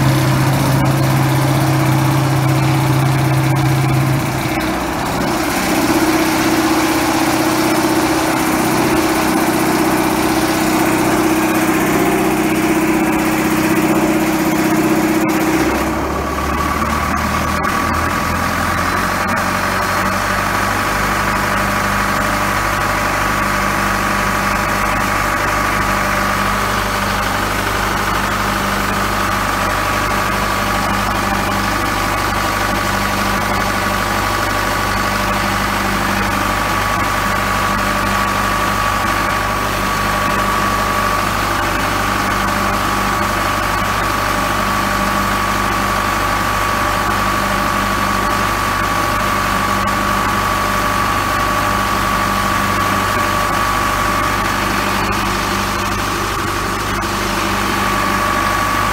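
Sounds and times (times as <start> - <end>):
diesel engine running under load: 0.0 - 58.9
steady higher whine: 0.0 - 58.9
water gushing from pump: 0.0 - 58.9.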